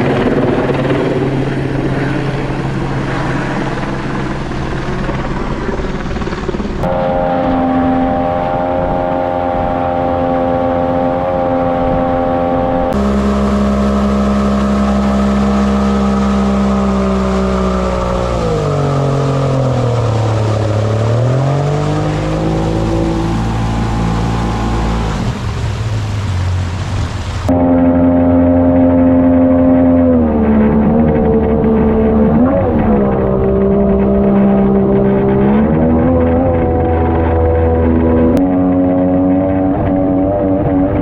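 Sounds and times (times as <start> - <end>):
jet-boat motor running: 0.0 - 41.0.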